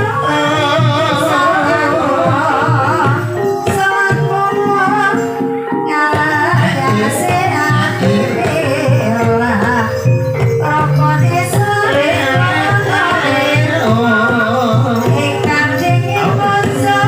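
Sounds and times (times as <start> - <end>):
gamelan instruments: 0.0 - 17.0
hand drum beating: 0.0 - 17.0
person singing wavering melody: 0.0 - 17.0.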